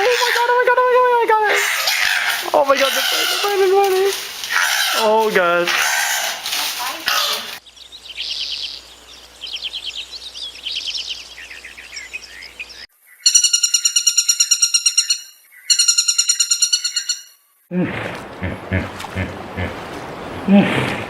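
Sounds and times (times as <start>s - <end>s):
birds chirping in trills: 0.0s - 20.5s.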